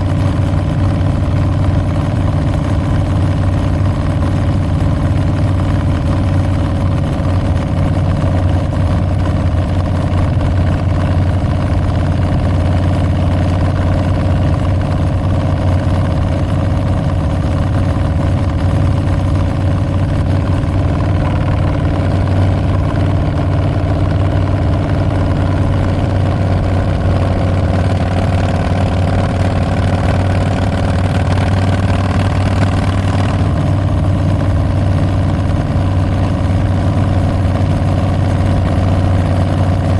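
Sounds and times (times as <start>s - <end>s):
motorcycle engine deep exhaust: 0.0s - 39.9s.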